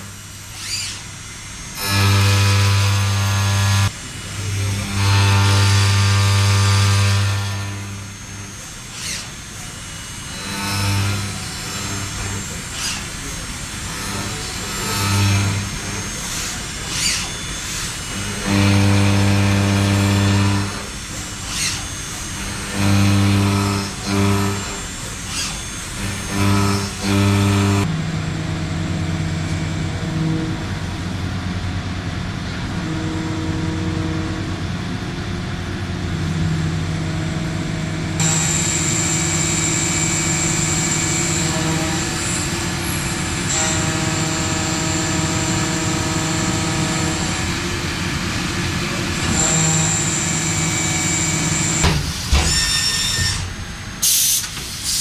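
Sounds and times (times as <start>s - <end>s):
cnc machining noise: 0.0s - 55.0s.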